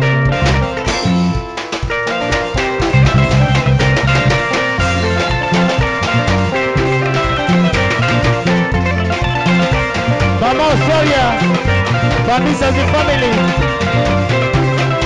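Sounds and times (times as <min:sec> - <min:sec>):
bass line: 0:00.0 - 0:15.0
drum kit beat: 0:00.0 - 0:15.0
electric guitars: 0:00.0 - 0:15.0.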